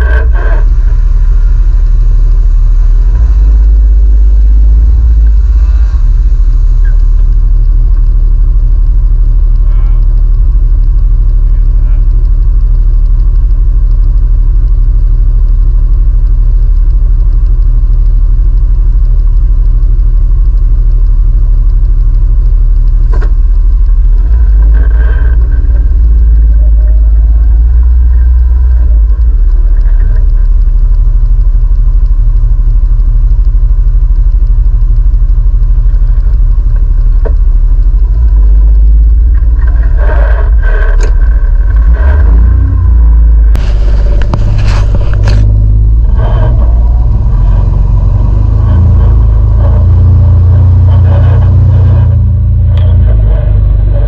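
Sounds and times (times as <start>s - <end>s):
engine low drone: 0.0s - 54.0s.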